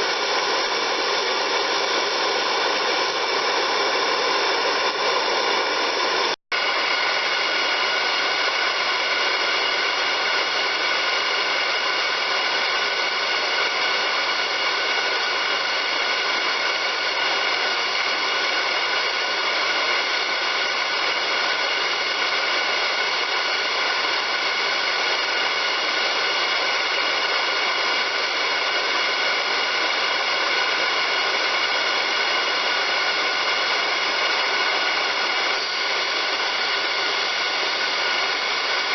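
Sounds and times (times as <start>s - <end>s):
grinding machine whining: 0.0s - 38.9s.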